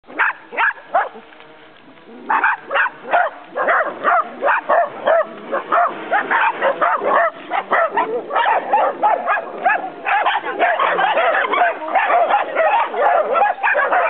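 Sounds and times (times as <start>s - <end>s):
dogs barking excitedly: 0.1s - 1.3s, 2.2s - 14.0s.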